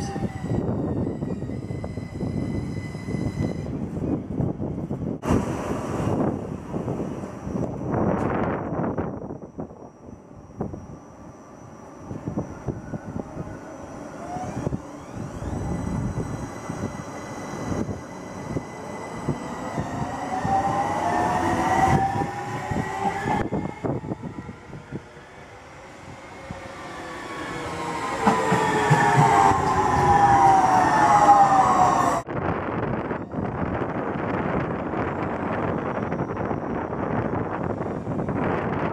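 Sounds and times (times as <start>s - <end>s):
train wheel and running noise: 0.0s - 38.9s
train motor whine: 6.1s - 38.9s.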